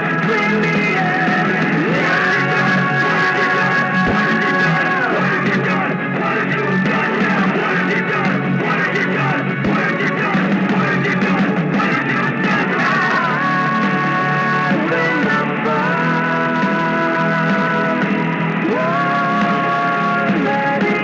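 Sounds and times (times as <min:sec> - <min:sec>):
rock song with guitar: 0:00.0 - 0:21.0.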